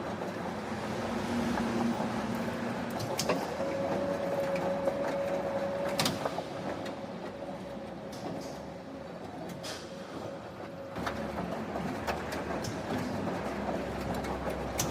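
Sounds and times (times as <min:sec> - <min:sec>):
factory machinery humming: 0:00.0 - 0:14.9.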